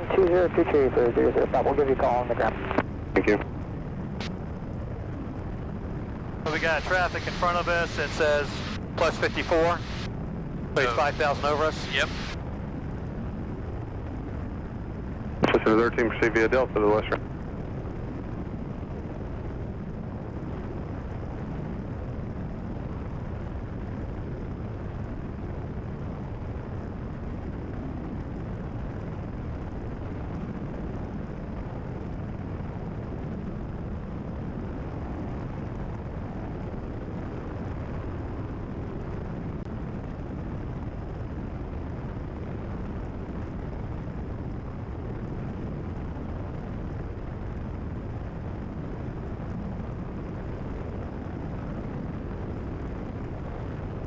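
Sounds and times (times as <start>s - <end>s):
propeller plane engine drone: 0.0s - 54.0s
wind noise in cabin: 0.0s - 54.0s.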